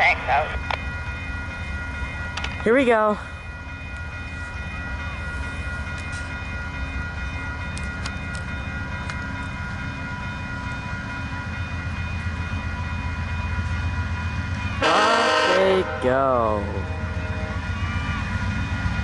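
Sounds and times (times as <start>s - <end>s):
diesel locomotive engine rumble: 0.0s - 19.0s.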